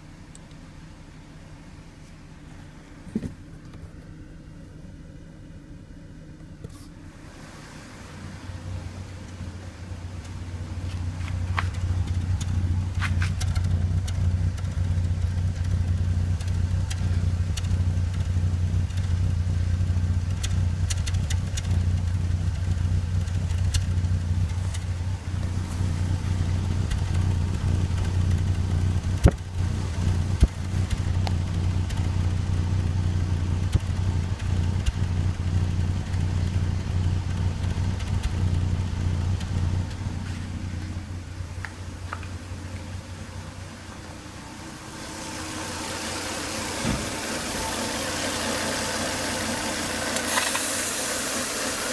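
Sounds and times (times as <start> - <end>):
car engine running: 0.0 - 51.9.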